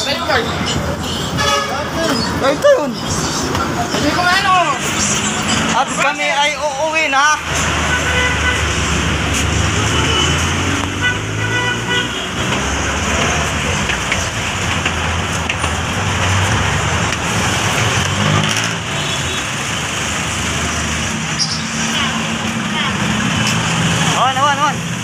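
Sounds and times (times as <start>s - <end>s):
rush of traffic noise: 0.0s - 25.0s
vehicle engines running: 0.0s - 25.0s.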